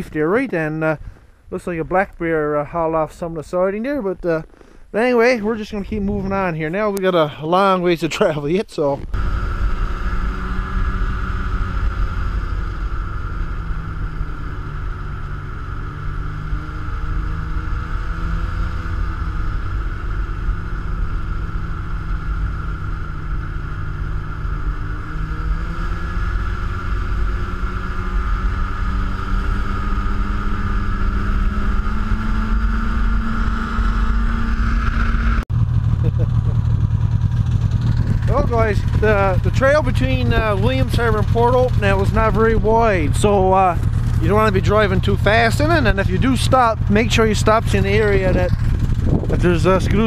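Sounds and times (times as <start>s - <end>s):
snowmobile engine running: 0.0s - 50.0s.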